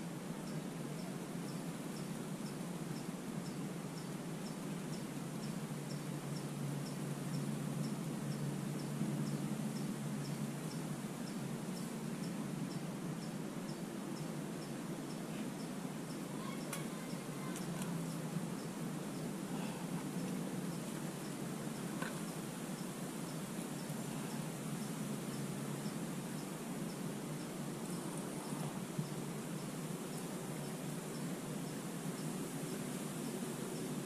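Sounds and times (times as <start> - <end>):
insect chirping: 0.4 - 34.0.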